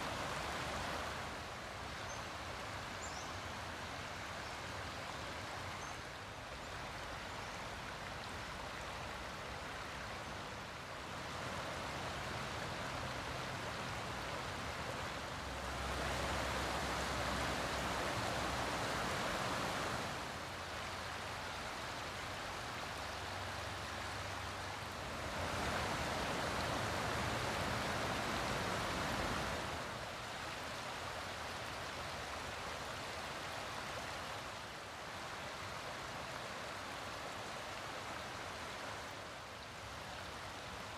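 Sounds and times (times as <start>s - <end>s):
creek running over rocks: 0.0s - 40.9s.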